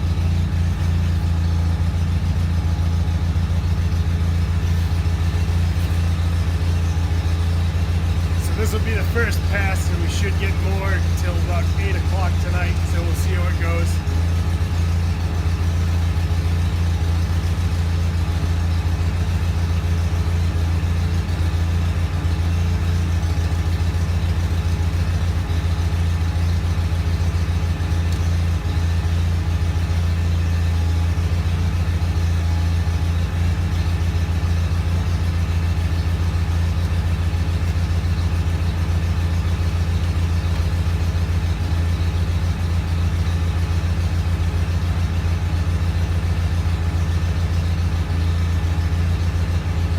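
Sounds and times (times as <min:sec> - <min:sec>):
garden tractor engine running: 0:00.0 - 0:49.9.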